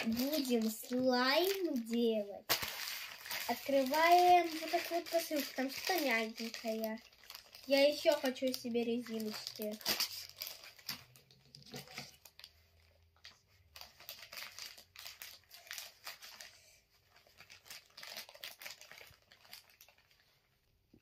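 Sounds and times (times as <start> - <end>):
plastic bag crinkling: 0.0 - 20.6.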